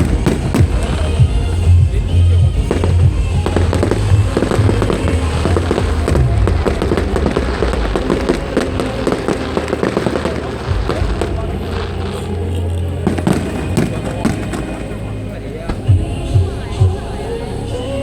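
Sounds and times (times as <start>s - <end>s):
fireworks crackling and banging: 0.0s - 17.1s
low rumble: 0.0s - 18.0s.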